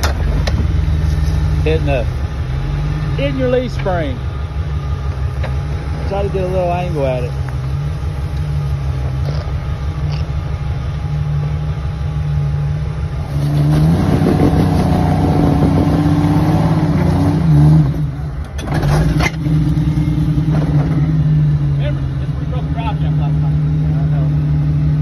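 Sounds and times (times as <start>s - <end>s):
engine revving under load: 0.0s - 25.0s.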